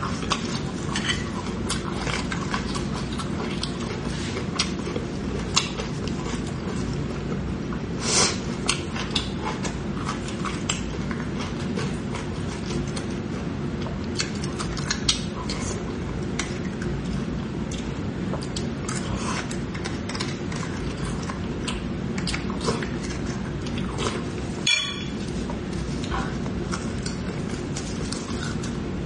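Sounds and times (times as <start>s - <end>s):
steady low hum: 0.0s - 29.0s
wet mouth eating sounds: 0.0s - 29.0s.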